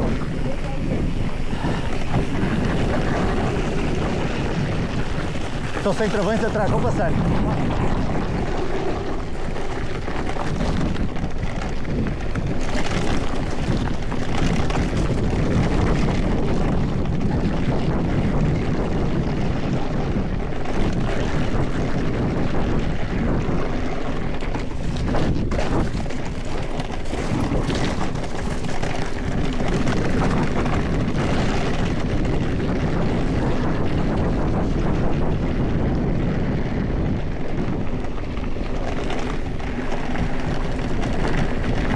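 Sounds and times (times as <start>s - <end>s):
bike rattling and knocking: 0.0s - 41.9s
bike tyres rolling over rough ground: 0.0s - 41.9s.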